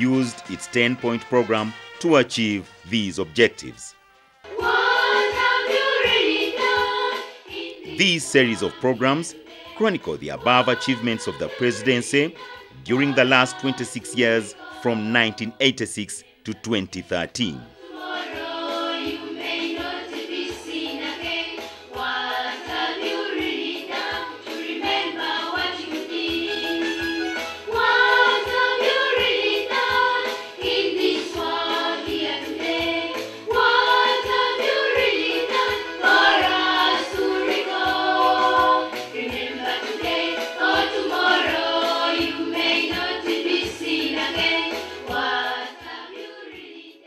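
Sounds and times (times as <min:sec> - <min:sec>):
choir singing over bass beat: 0:04.5 - 0:27.0, 0:27.7 - 0:47.0.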